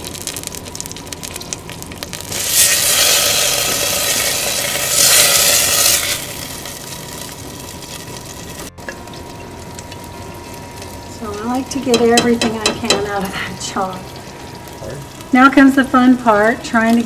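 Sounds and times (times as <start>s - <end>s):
sauce sizzling in a pot: 0.0s - 17.0s.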